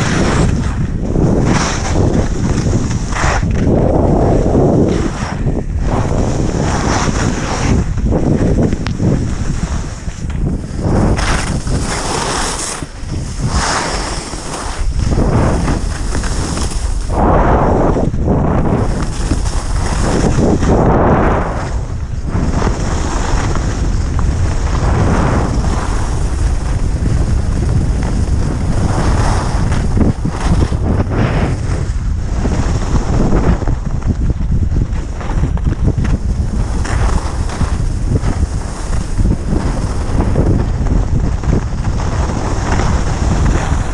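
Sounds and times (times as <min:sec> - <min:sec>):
skis scraping on packed snow: 0:00.0 - 0:43.9
wind on microphone: 0:00.0 - 0:43.9.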